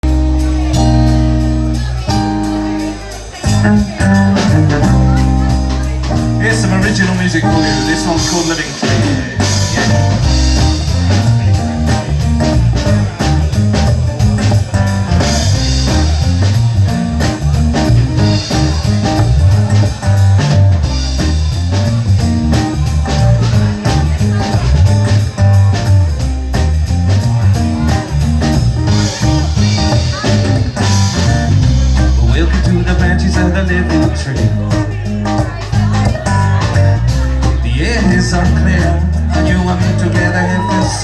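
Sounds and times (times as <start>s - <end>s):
rock blues band instrumental: 0.0s - 41.0s.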